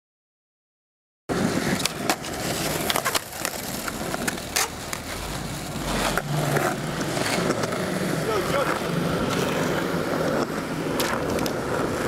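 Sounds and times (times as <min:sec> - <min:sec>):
skateboard wheels rolling on tarmac: 0:01.3 - 0:12.0
skateboard deck clacking on ground: 0:01.6 - 0:12.0.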